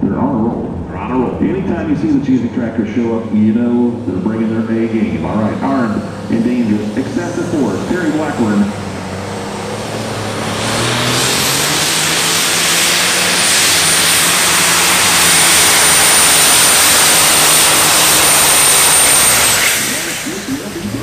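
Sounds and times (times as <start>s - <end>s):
diesel engine at full power: 0.0s - 21.0s.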